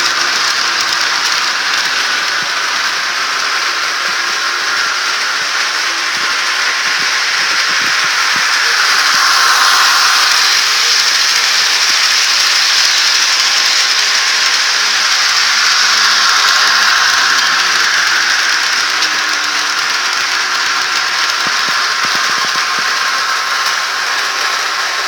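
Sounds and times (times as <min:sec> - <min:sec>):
model train wheels rattling: 0:00.0 - 0:25.0.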